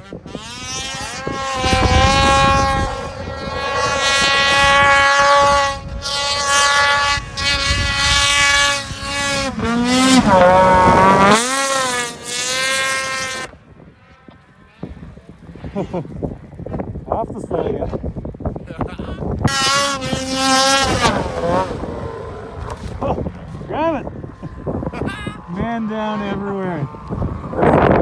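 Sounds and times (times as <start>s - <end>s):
snowmobile engine at high revs: 0.0s - 28.0s.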